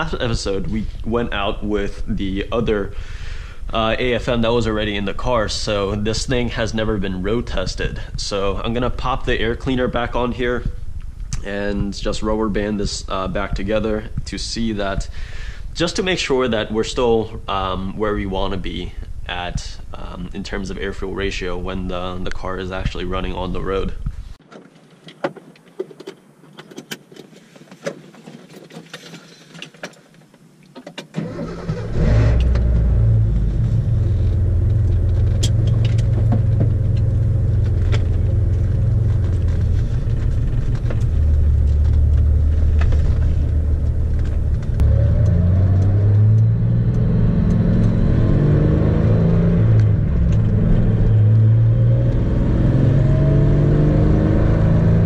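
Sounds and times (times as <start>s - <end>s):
car engine driving off: 0.0s - 24.0s, 31.2s - 55.0s
car engine starting and idling: 0.0s - 24.1s, 31.1s - 55.0s.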